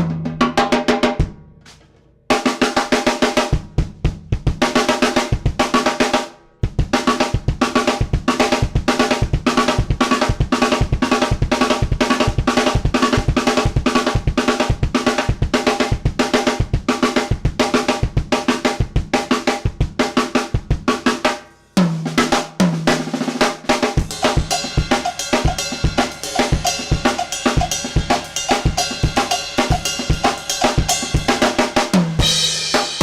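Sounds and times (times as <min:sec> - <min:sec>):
drum kit groove: 0:00.0 - 0:33.0.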